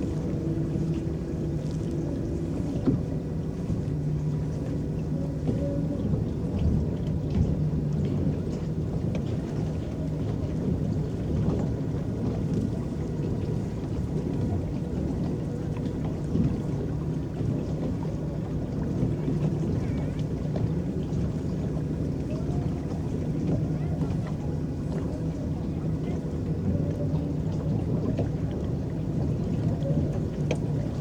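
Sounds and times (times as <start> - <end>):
water churning and lapping at hull: 0.0 - 31.0.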